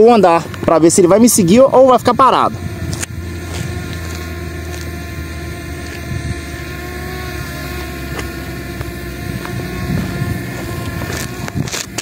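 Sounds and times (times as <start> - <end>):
wind buffeting microphone: 0.0 - 7.1, 8.8 - 12.0
drone propellers humming: 0.0 - 12.0.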